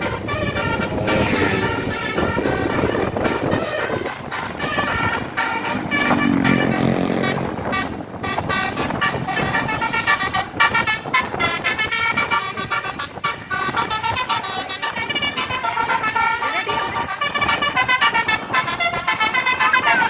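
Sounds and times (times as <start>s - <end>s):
bus horn multi-tone notes: 0.0s - 20.0s
low long horn tone: 0.0s - 20.0s.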